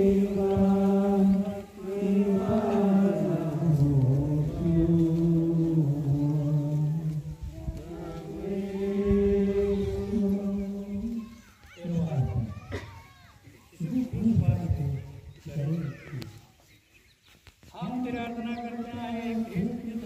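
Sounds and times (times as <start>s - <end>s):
crowd singing a hymn: 0.0s - 12.5s, 13.7s - 15.7s, 17.7s - 20.0s.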